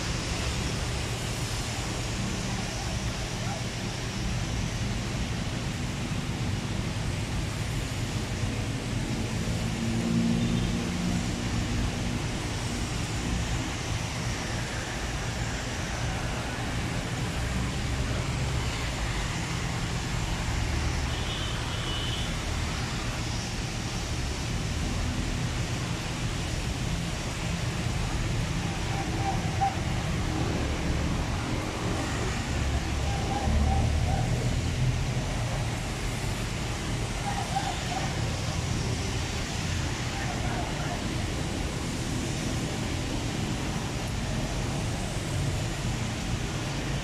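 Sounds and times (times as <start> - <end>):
rain on wet pavement: 0.0 - 47.0.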